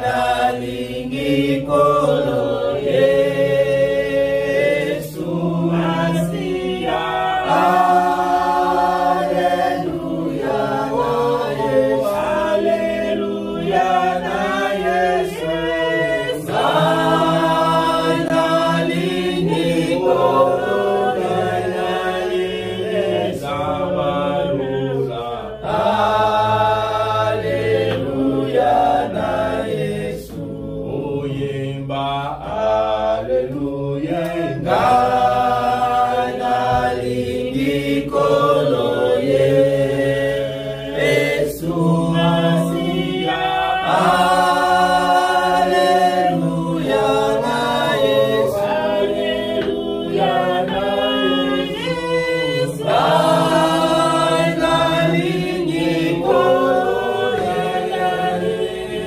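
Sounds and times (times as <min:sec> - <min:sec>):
congregation singing unaccompanied: 0:00.0 - 0:59.0.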